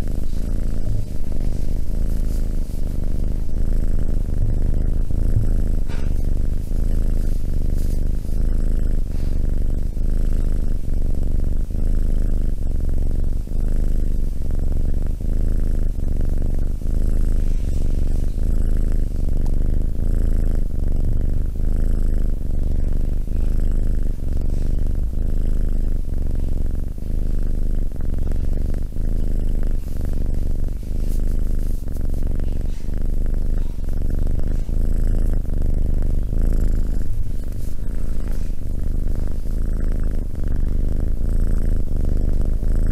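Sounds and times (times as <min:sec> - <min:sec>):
kitten purring: 0:00.0 - 0:42.9.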